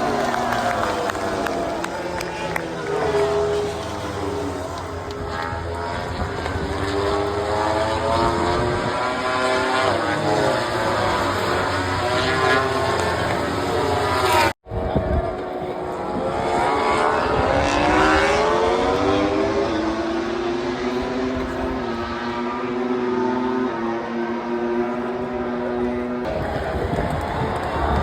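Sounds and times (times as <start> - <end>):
racing motorcycles passing: 0.0 - 28.0.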